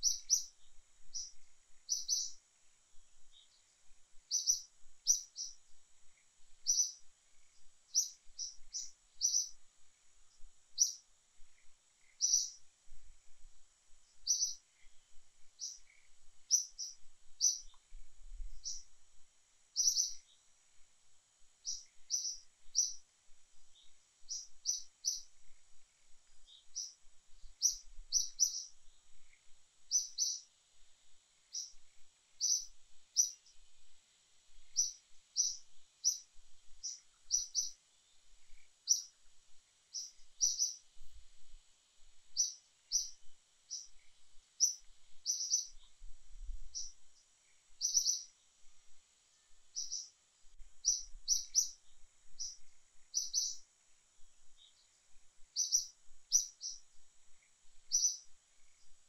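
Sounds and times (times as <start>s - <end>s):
bird chirping: 0.0s - 12.7s, 14.0s - 19.0s, 19.7s - 20.5s, 21.6s - 30.5s, 31.4s - 33.7s, 34.7s - 39.2s, 39.9s - 41.2s, 42.3s - 48.6s, 49.3s - 50.2s, 50.8s - 53.7s, 54.5s - 59.0s
faint high hiss: 0.0s - 59.0s.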